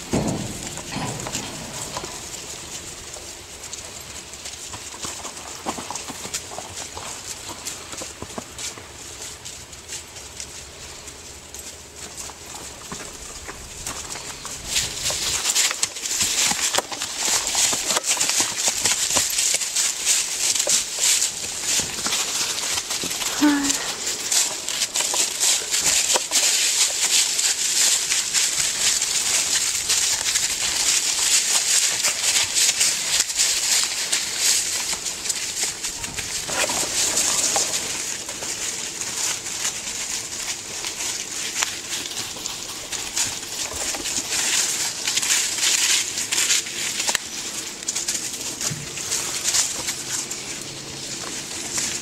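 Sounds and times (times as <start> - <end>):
dry leaves crunching underfoot: 0.0 - 52.0.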